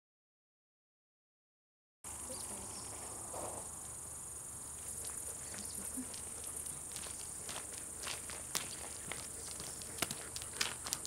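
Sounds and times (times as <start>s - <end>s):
insects chirring: 2.1s - 11.0s.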